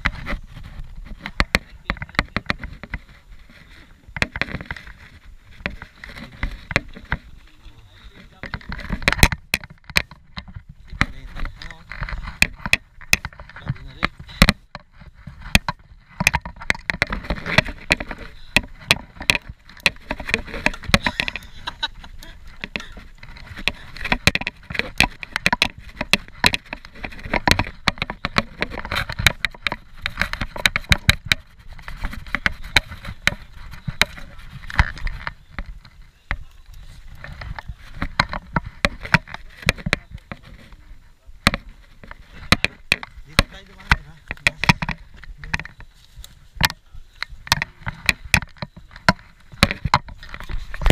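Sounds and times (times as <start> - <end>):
bike rattling over bumps: 0.0 - 50.9
tyres rumbling on dirt: 0.0 - 50.9
wind: 0.0 - 50.9.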